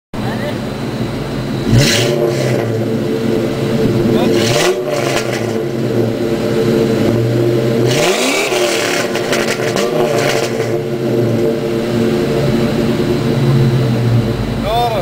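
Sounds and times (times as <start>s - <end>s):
car engine idling and revving: 0.2s - 15.0s.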